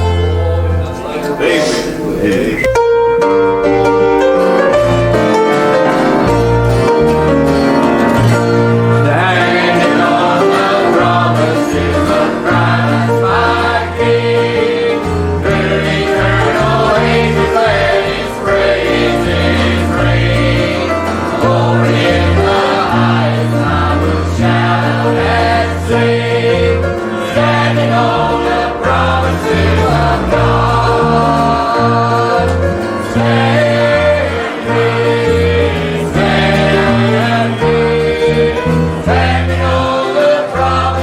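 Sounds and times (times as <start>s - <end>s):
choir singing a gospel hymn: 4.2s - 41.0s.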